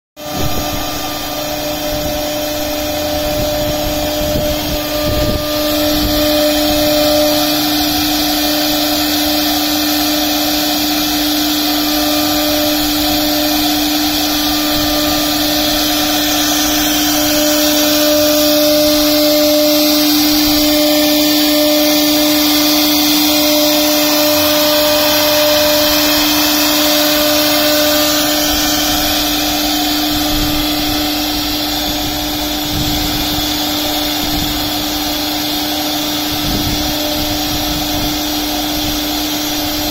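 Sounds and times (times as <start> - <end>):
hiss of wood being cut: 0.2 - 39.9
router spindle whining: 0.2 - 39.9.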